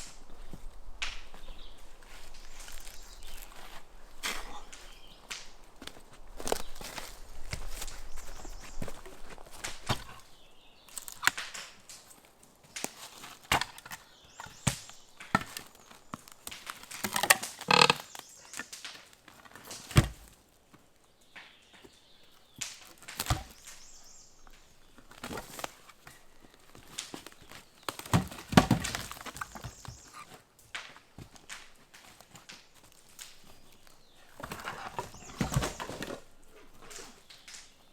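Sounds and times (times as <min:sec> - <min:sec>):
wood knocking and cracking: 0:00.0 - 0:37.9.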